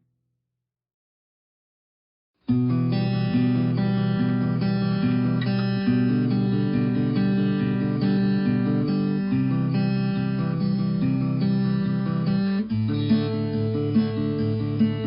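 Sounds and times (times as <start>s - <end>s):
strummed acoustic guitar: 2.5s - 15.0s.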